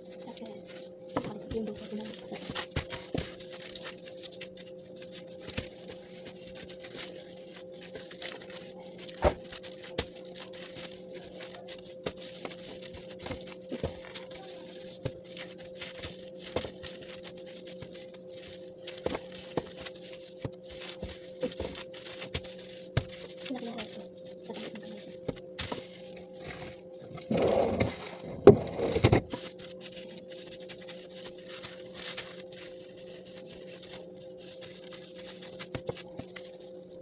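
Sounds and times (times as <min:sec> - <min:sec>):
low hum: 0:00.0 - 0:37.0
plastic gloves crinkling: 0:00.0 - 0:37.0.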